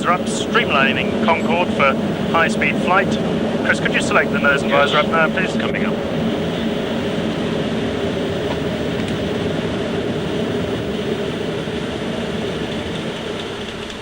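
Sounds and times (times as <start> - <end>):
cockpit airflow rush: 0.0 - 14.0.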